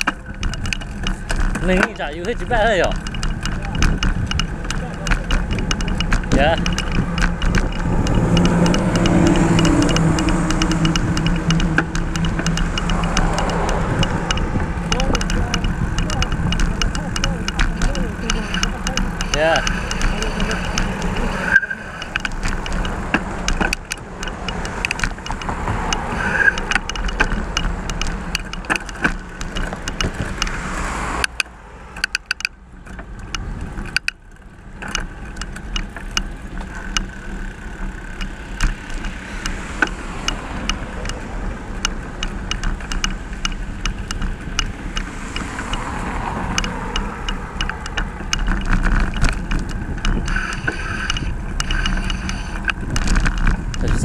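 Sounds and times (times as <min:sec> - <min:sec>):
road traffic rumble: 0:00.0 - 0:54.0
short clicks and rattles: 0:00.0 - 0:54.0.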